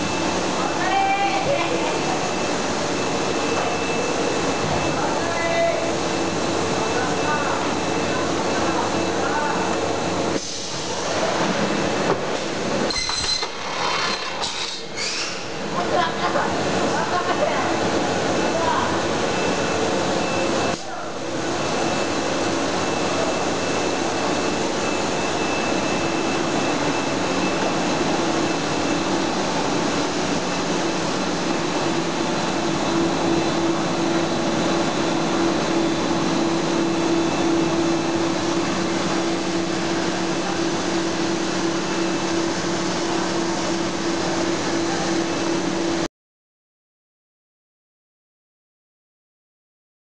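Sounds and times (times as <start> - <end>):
extrusion machine rushing noise: 0.0 - 46.1.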